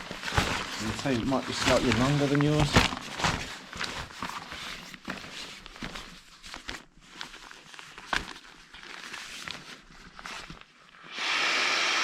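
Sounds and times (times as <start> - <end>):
sleeping pad rustling and clicking: 0.0 - 10.8.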